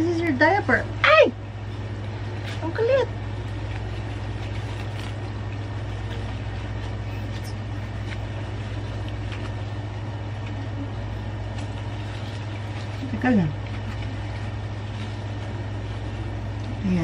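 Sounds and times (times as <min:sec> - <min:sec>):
low mechanical hum: 0:00.0 - 0:17.0
faint rustles: 0:01.4 - 0:17.0.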